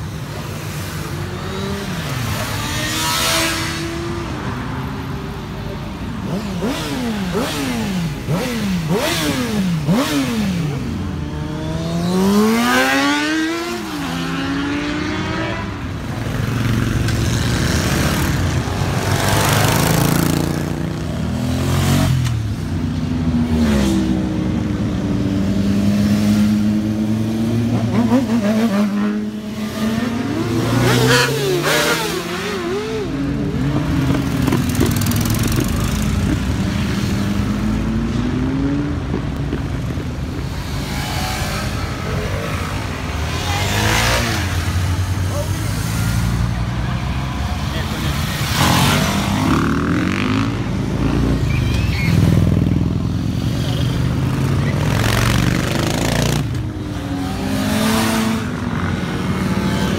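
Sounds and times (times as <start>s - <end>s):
motorcycles passing: 0.0s - 59.9s.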